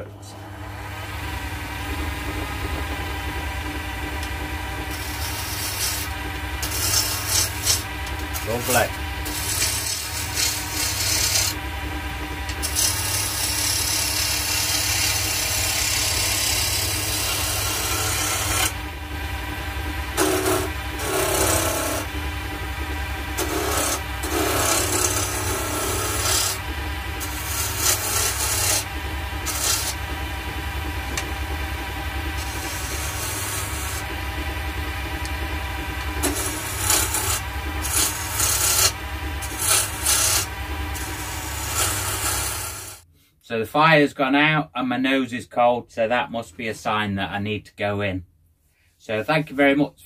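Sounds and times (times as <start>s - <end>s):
gouge scraping spinning wood: 0.0s - 43.0s
lathe motor humming: 0.0s - 43.0s.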